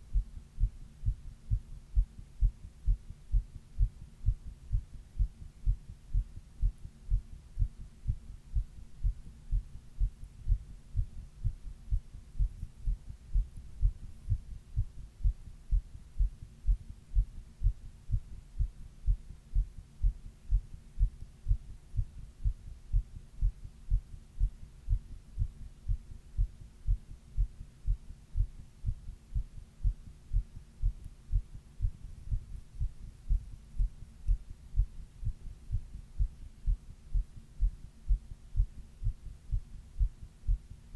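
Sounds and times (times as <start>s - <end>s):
heartbeat thuds: 0.0s - 40.8s.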